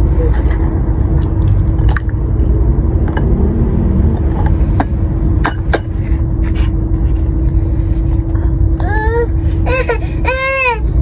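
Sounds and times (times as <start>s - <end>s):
faint hum: 0.0s - 11.0s
steady low rumble: 0.0s - 11.0s.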